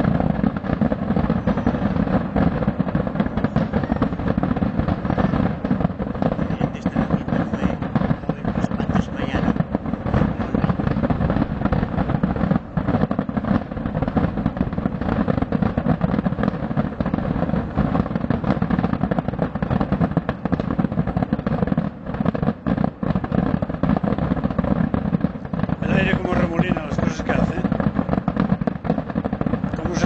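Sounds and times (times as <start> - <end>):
fireworks crackling and rumbling: 0.0 - 30.0.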